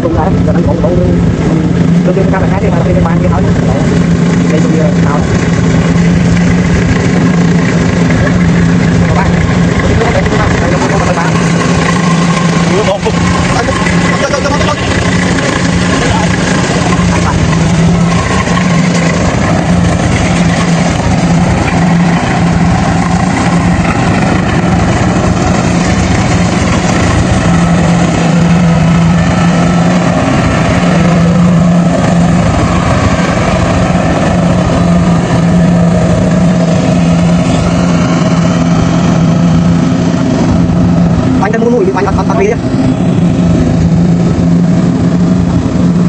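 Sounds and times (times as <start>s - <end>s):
diesel engine humming: 0.0s - 46.0s
harvester machinery clatter: 0.0s - 46.0s.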